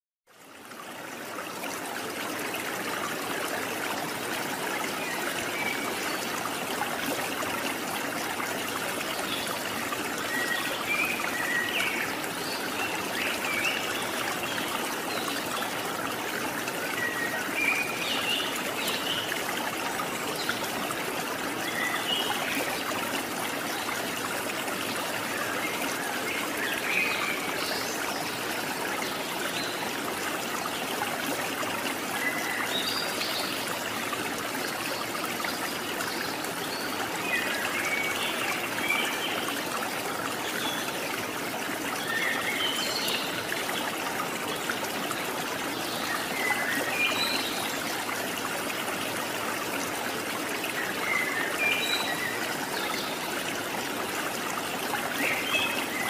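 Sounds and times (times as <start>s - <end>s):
trickling water: 0.3s - 56.0s.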